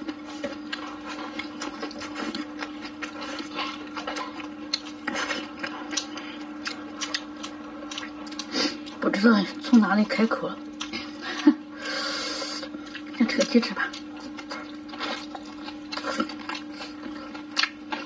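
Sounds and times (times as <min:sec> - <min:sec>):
gnawing and chewing: 0:00.0 - 0:18.0.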